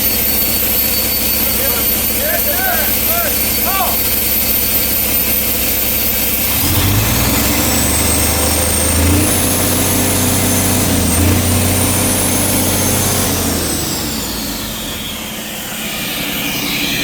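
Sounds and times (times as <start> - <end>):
diesel engine revving: 0.0 - 17.0
high engine whine: 0.0 - 17.0.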